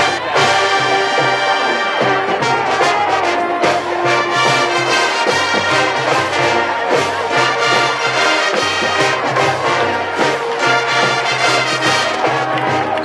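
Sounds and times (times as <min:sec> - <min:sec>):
marching band playing rock: 0:00.0 - 0:13.0.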